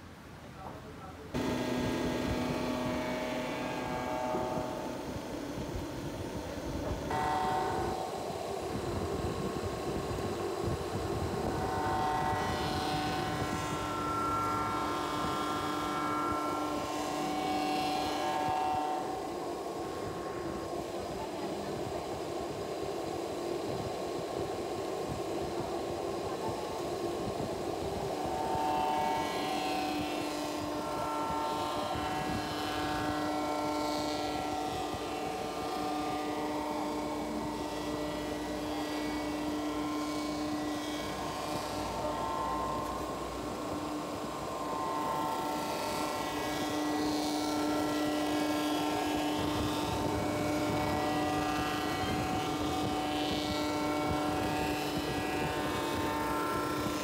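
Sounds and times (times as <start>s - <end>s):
resurfacing machine drone: 0.0s - 57.0s.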